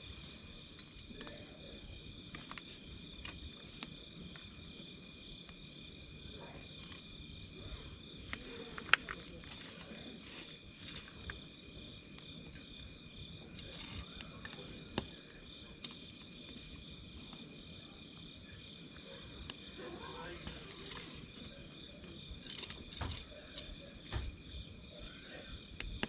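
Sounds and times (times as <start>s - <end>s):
campfire crackling and popping: 0.0s - 26.0s
insects chirping: 0.0s - 26.0s.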